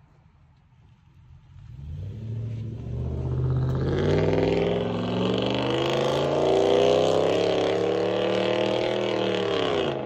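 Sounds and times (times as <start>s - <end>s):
truck engine accelerating: 1.4s - 10.0s.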